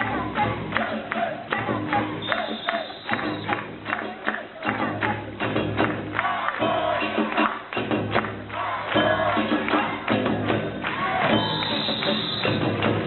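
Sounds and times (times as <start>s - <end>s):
drums: 0.0s - 13.0s.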